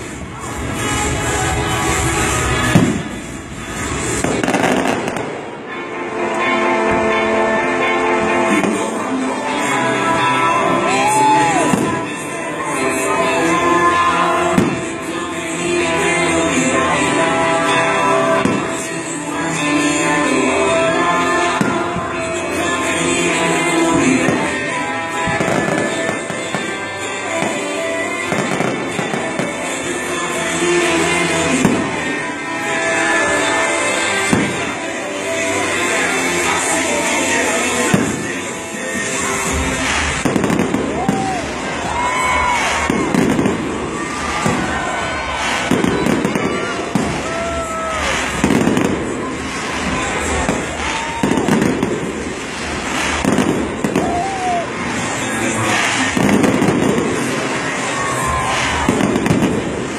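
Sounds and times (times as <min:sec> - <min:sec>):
firework bangs and crackles: 0:00.0 - 0:05.8, 0:08.5 - 0:09.8, 0:10.9 - 0:13.3, 0:14.4 - 0:15.2, 0:17.6 - 0:18.9, 0:21.4 - 0:59.9
loud music: 0:00.0 - 0:59.9.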